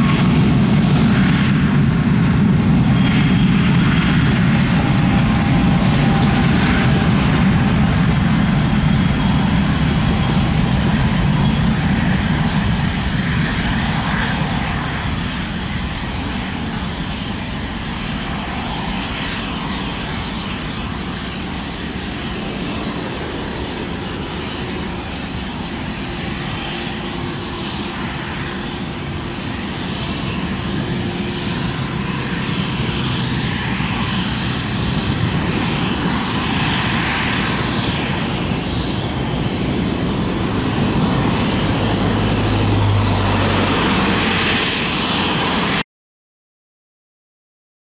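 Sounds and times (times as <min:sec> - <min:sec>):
jet engine roar: 0:00.0 - 0:45.8.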